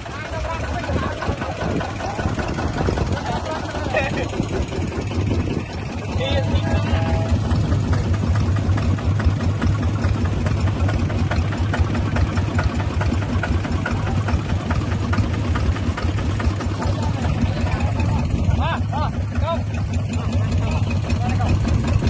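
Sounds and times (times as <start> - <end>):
bulldozer engine idling: 0.0 - 22.0.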